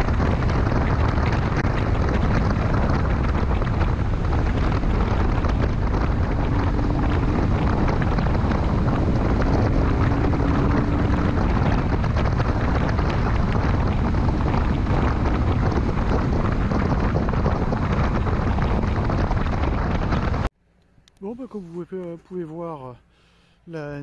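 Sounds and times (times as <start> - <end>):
wind rush on microphone: 0.0 - 20.5
motorcycle engine droning: 0.0 - 21.2.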